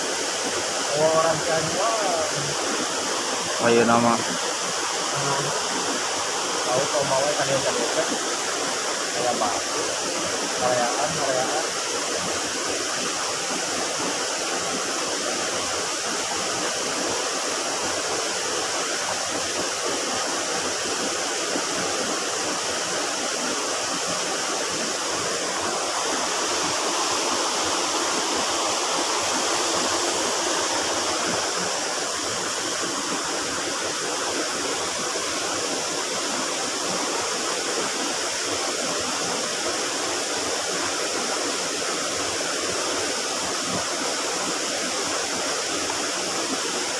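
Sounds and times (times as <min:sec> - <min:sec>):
river rushing and splashing: 0:00.0 - 0:46.9.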